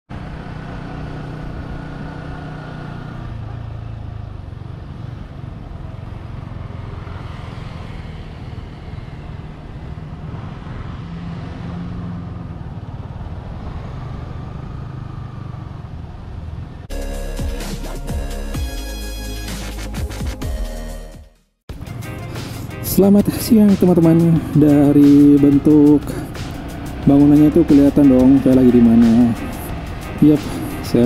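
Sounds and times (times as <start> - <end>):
motorcycle engine: 0.1 - 18.9, 21.7 - 31.0
road noise: 0.1 - 20.4, 21.7 - 31.0.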